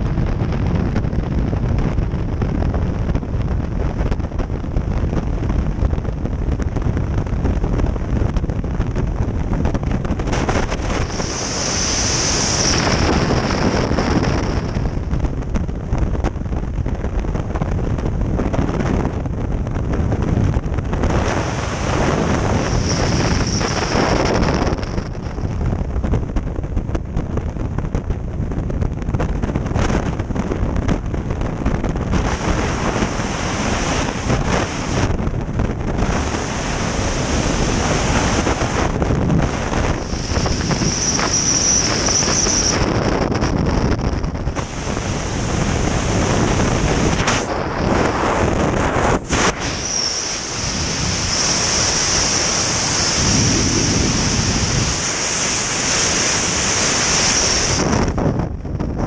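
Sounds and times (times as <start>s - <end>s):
wind buffeting camera microphone: 0.0s - 59.0s.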